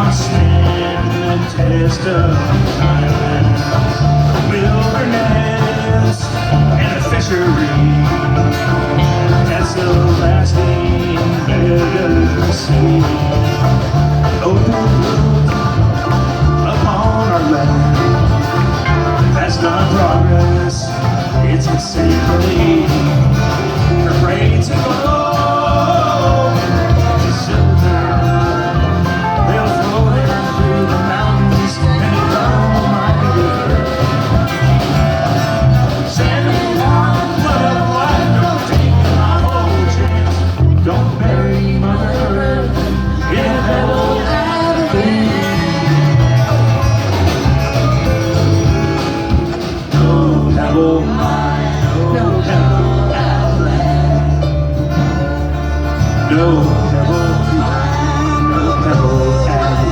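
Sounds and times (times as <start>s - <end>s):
live country band playing: 0.0s - 59.9s.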